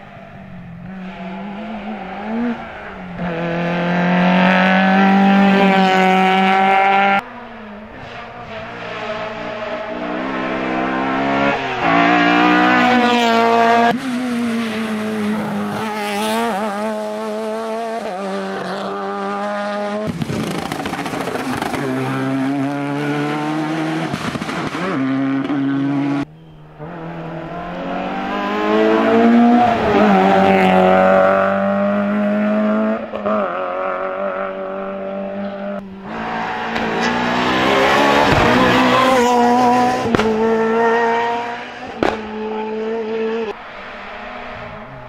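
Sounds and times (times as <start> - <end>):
rally car engines accelerating: 0.0 - 45.0.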